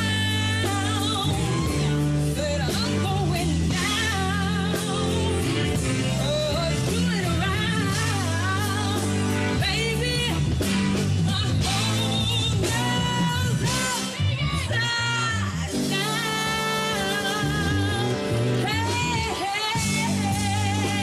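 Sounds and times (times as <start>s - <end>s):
bass line: 0.0s - 21.0s
drums: 0.0s - 21.0s
woman singing with vibrato: 0.0s - 21.0s.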